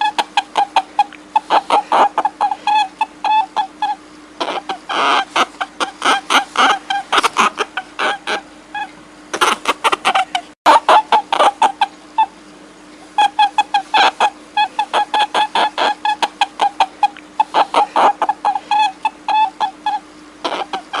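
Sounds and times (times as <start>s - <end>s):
short high animal calls: 0.0s - 12.4s, 13.1s - 21.0s.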